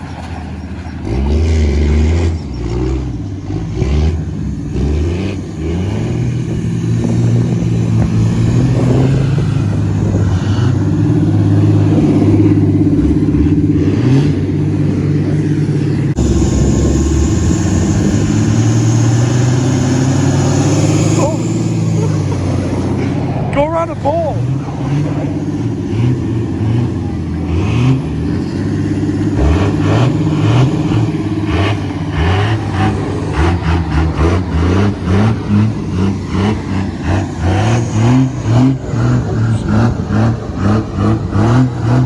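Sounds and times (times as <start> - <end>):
pickup truck engine revving: 0.0 - 42.0.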